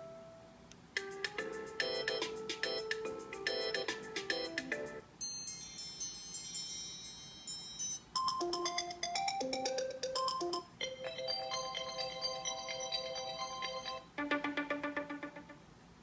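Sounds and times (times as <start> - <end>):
ringtone melodies: 1.0 - 15.6.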